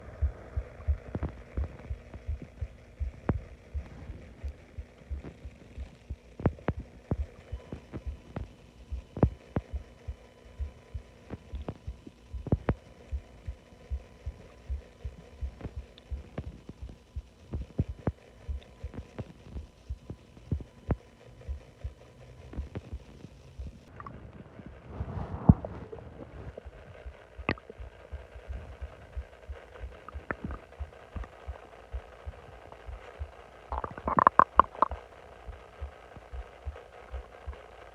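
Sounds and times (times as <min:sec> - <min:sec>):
stomach gurgling: 0:00.0 - 0:37.7.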